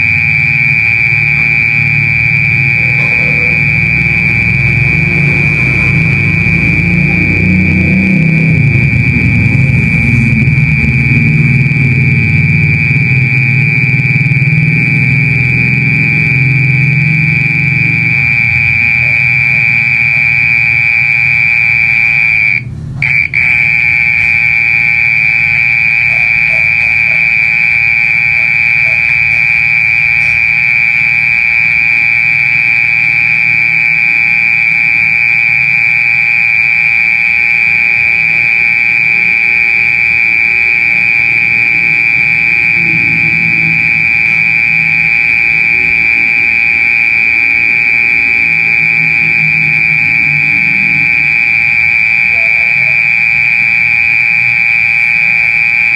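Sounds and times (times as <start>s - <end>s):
mole cricket trilling: 0.0s - 55.8s.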